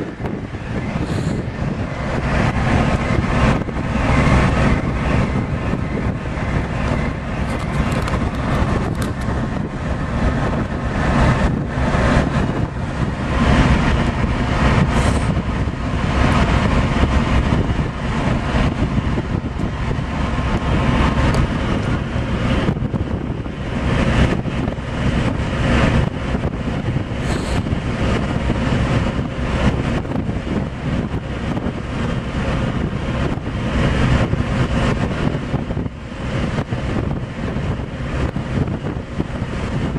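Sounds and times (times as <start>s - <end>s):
churning wake: 0.0s - 39.9s
ship engine rumble: 0.0s - 39.9s
wind gusting on microphone: 0.0s - 39.9s.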